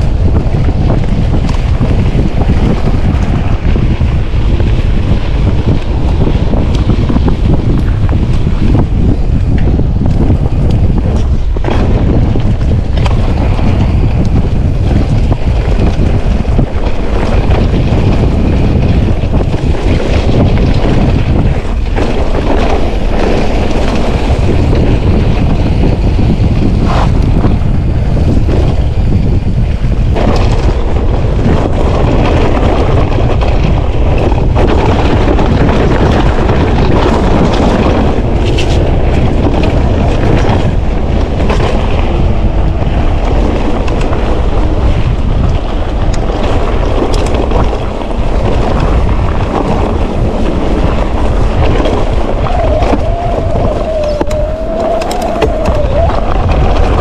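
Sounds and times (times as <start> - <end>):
bike knocking and rattling: 0.0 - 57.0
wind buffeting microphone: 0.0 - 57.0.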